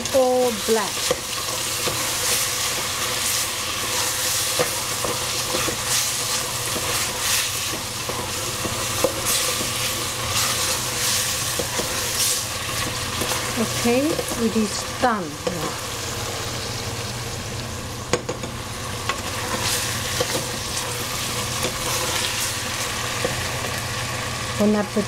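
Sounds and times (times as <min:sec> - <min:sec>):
vegetables sizzling in a pot: 0:00.0 - 0:25.0.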